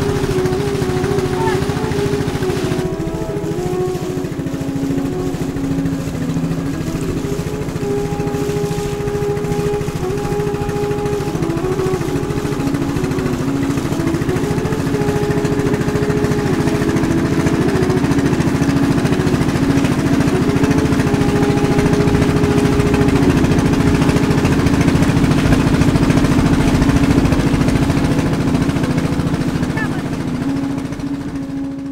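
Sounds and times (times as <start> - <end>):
small boat engine chugging: 0.0 - 31.9.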